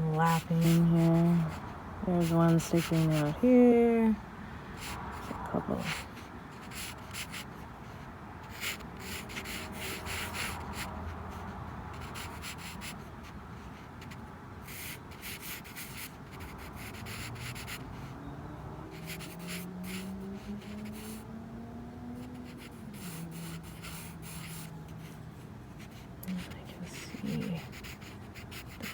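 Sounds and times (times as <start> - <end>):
pen scratching on paper: 0.0 - 3.4, 4.8 - 7.6, 8.4 - 18.1, 18.9 - 21.2, 22.2 - 25.2, 25.8 - 28.9.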